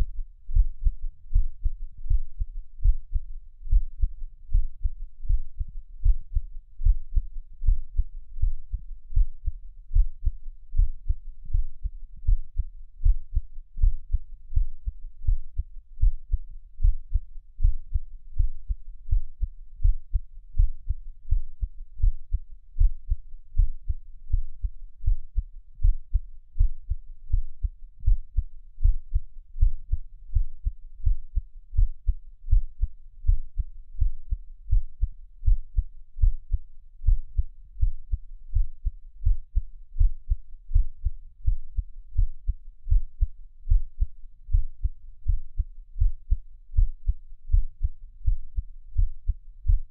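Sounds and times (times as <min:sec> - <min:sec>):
heartbeat: 0:00.0 - 0:49.9.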